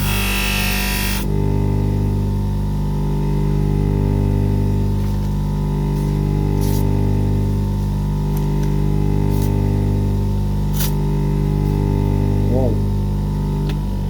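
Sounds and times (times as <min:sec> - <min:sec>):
buffer motor humming: 0:00.0 - 0:14.0.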